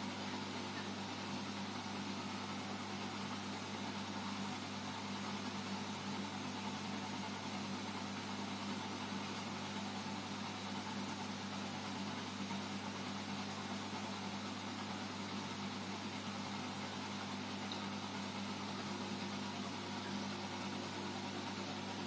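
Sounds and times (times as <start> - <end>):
aquarium equipment humming: 0.0 - 22.0.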